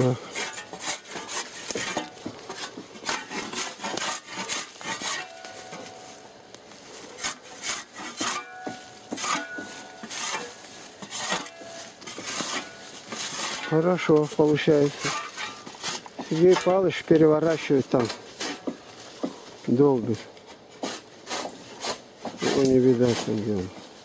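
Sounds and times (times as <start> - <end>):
spade scraping bark off log: 0.0 - 19.4, 20.5 - 23.6.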